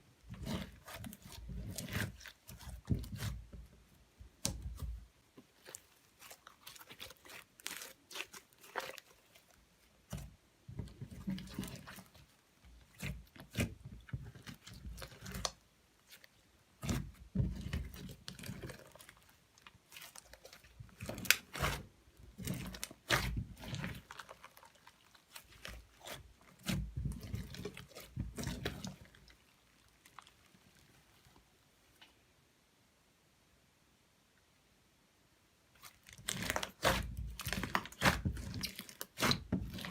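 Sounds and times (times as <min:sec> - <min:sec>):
slime wet squelches: 0:00.2 - 0:31.4, 0:35.7 - 0:39.9.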